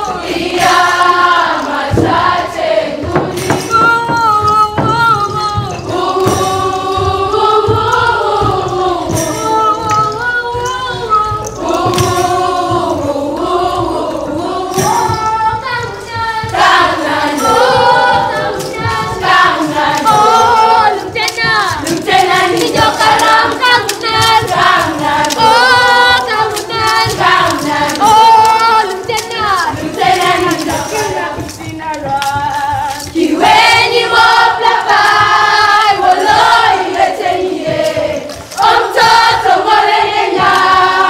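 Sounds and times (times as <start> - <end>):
group singing: 0.0 - 41.0.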